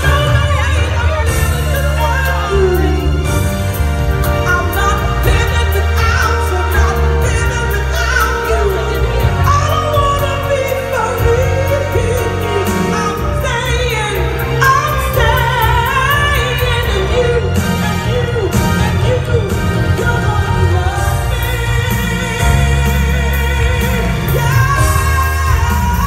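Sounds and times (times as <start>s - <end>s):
backing band with heavy bass: 0.0s - 26.0s
woman singing: 0.0s - 26.0s.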